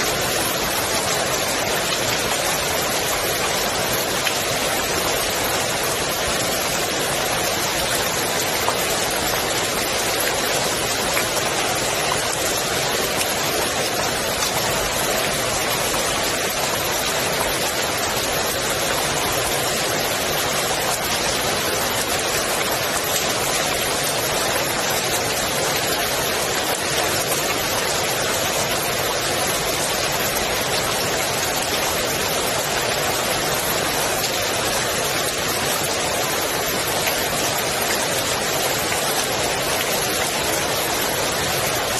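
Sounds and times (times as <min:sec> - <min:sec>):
rain falling on pool water: 0:00.0 - 0:41.9.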